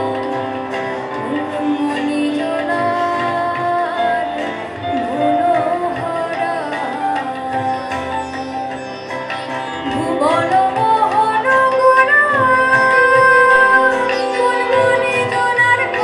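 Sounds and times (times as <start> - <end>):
women singing into microphones: 0.0 - 8.8, 9.8 - 16.0.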